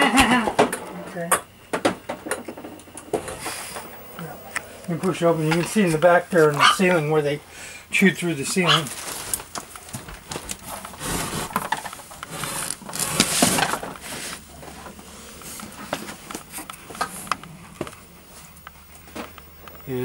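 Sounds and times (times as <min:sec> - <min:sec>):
rustling and shuffling: 0:00.4 - 0:20.0.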